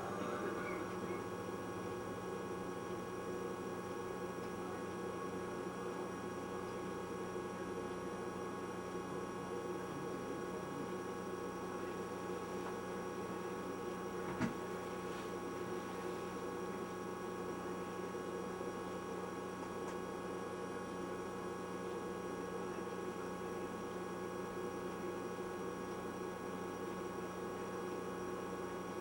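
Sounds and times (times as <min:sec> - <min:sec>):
electrical hum and hiss: 0:00.0 - 0:29.0.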